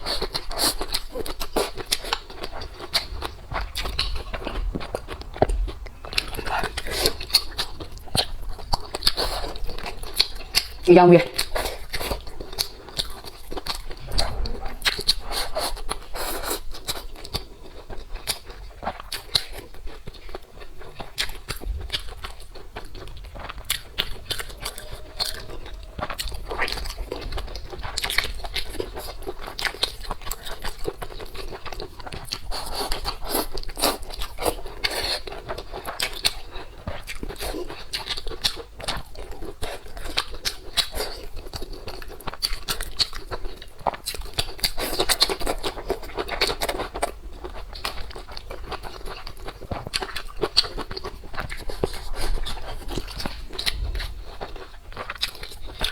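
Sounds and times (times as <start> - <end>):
food chewed and crunched: 0.0 - 55.9.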